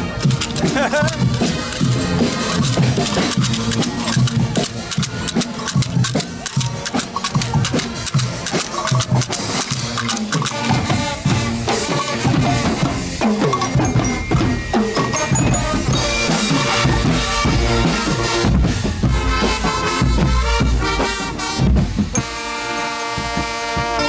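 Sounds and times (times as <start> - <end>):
loud party music: 0.0 - 24.0.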